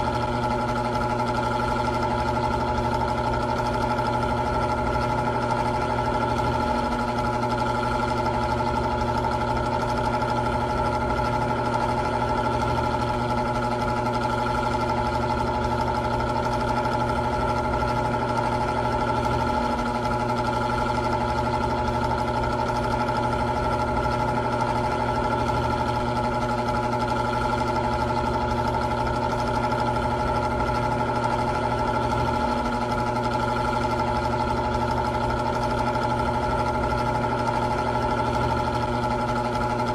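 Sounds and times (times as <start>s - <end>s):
electric fan motor humming: 0.0s - 39.9s.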